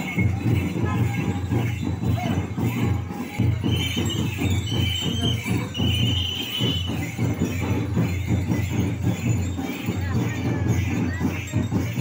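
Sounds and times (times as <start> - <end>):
metallic jingling: 0.0 - 12.0
rapid drumming: 0.0 - 12.0.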